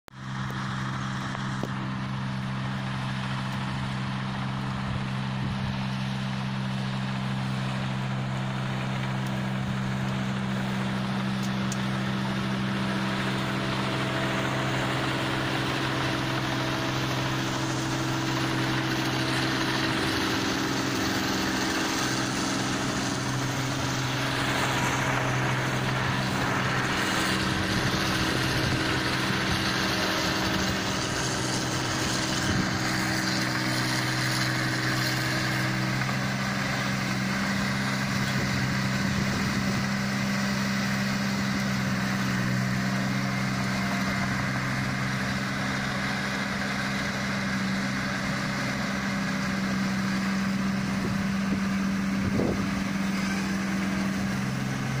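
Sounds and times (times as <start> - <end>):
combine harvester engine drone: 0.1 - 55.0.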